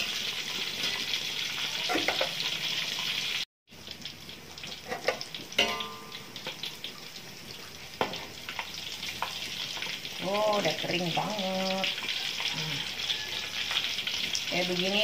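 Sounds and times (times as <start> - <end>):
tofu sizzling in oil: 0.0 - 15.0.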